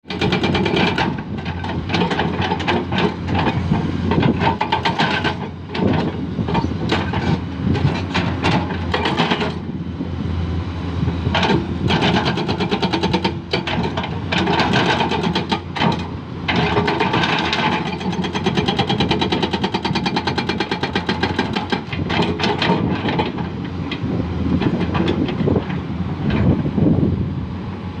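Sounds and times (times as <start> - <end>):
excavator diesel engine: 0.1 - 28.0.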